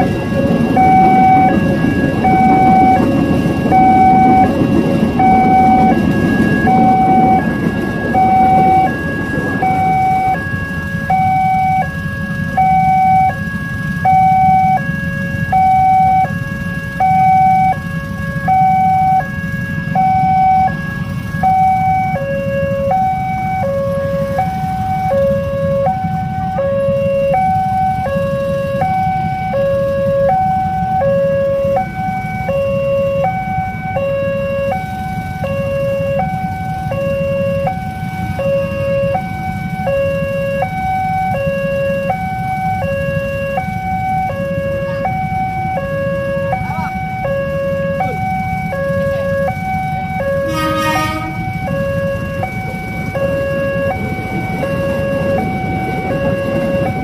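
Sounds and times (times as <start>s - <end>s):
low rumble of traffic: 0.0s - 57.0s
two-tone level crossing alarm: 0.0s - 57.0s.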